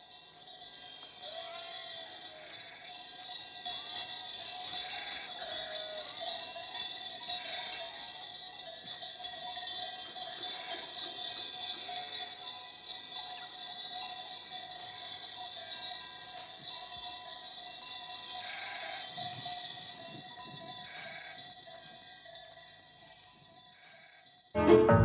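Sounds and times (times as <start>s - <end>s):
small bells clinking: 0.0s - 24.6s.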